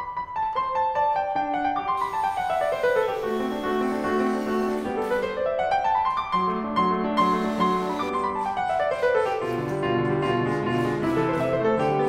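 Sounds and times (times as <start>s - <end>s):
classical piano music: 0.0s - 12.0s.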